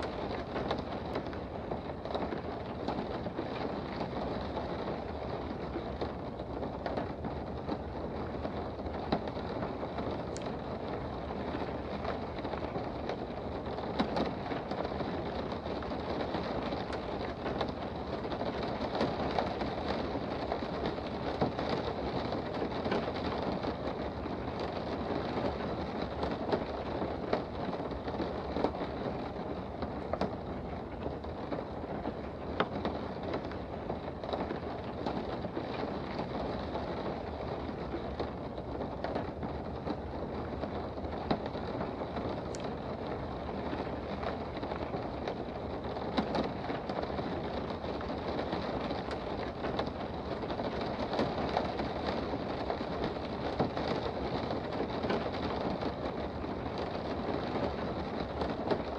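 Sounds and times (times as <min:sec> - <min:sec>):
raindrop ticks: 0:00.0 - 0:58.9
steady rain hiss: 0:00.0 - 0:58.9.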